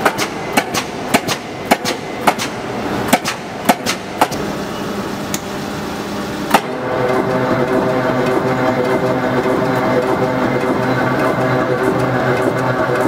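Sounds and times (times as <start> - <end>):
punch press motor humming: 0.0 - 13.0.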